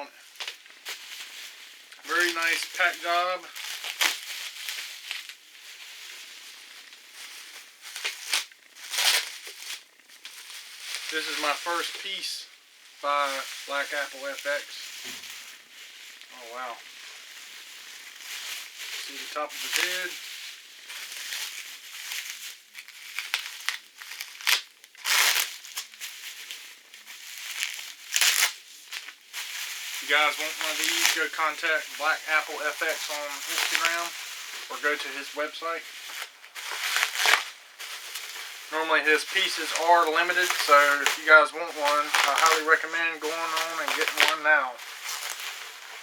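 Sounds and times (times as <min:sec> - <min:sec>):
packing material rustling: 0:00.1 - 0:46.0.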